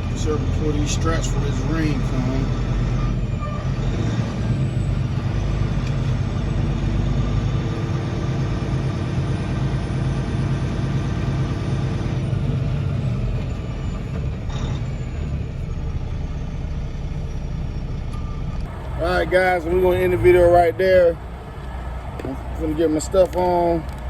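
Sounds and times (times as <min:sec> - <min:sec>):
truck diesel engine rumbling: 0:00.0 - 0:24.0.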